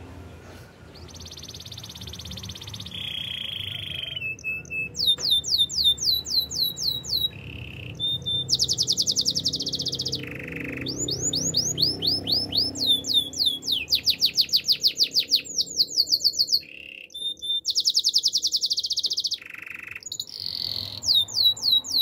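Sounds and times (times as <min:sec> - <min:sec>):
canary singing: 0:00.9 - 0:22.0.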